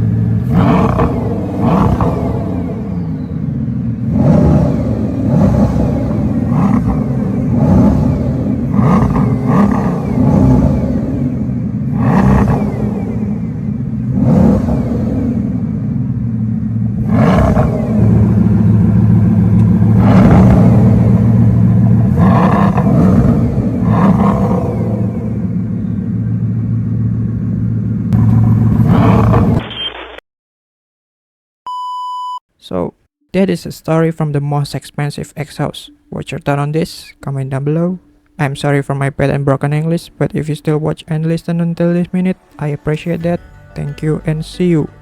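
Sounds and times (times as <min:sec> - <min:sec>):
car engine revving: 0:00.0 - 0:29.6, 0:37.4 - 0:45.0.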